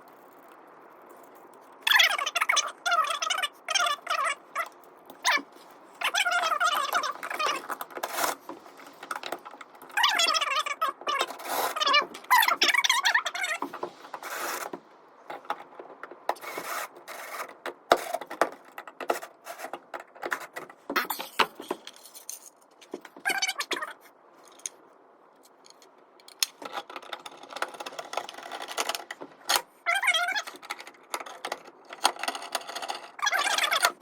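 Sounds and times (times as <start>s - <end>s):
clicks and scrapes of hardware parts: 0.0s - 24.8s, 25.4s - 34.0s.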